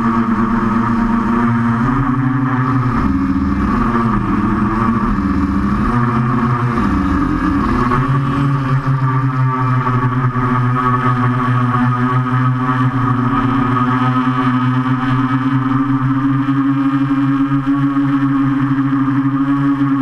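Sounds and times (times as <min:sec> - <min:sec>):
quadcopter propellers buzzing: 0:00.0 - 0:20.0.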